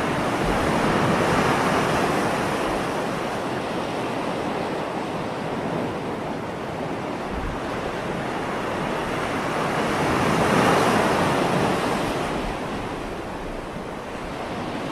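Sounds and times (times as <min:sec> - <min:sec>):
ocean waves breaking on shore: 0:00.0 - 0:14.9.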